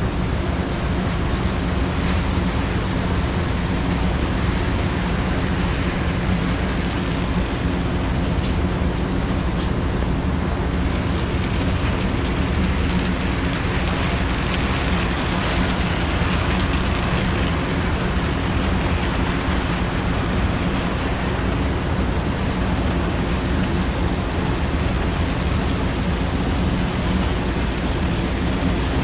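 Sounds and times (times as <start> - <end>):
model train wheels rumbling on rails: 0.0 - 29.0.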